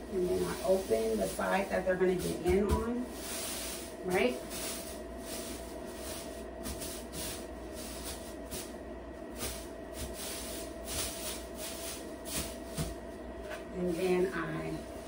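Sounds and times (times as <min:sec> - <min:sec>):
faint steady hum: 0:00.0 - 0:15.0
plastic and fabric rustling: 0:00.1 - 0:15.0.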